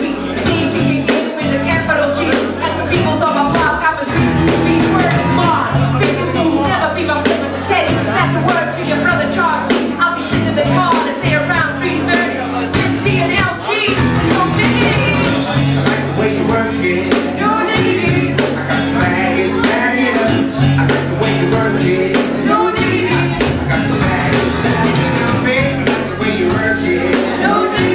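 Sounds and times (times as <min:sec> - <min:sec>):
bass line: 0:00.0 - 0:27.9
drums: 0:00.0 - 0:27.9
person singing: 0:00.0 - 0:27.9.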